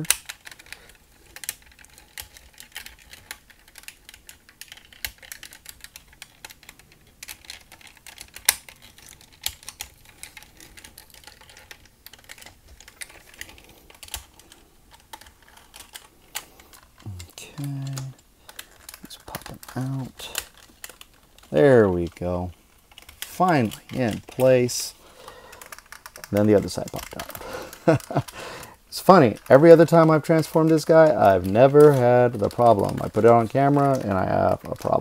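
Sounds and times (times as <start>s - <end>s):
plastic toy parts clicking: 0.0s - 28.4s, 29.0s - 35.0s.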